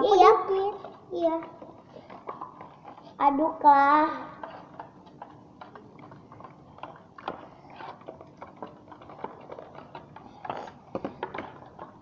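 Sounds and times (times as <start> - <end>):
stirrer scraping plastic bowl: 0.0 - 12.0.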